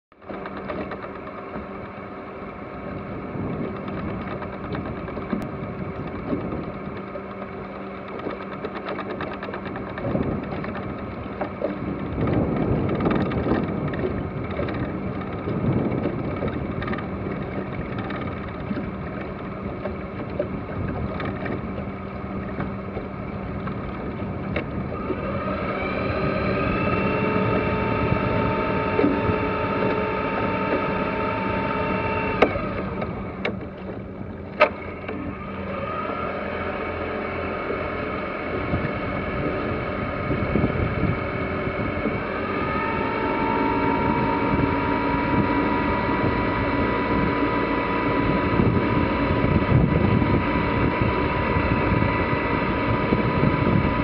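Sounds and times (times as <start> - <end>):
boat engine idling: 0.1 - 54.0.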